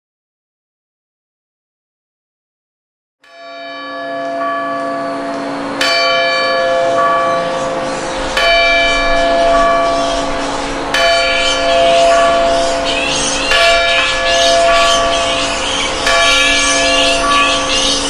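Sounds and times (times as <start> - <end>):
large church bell tolling: 3.2 - 18.0.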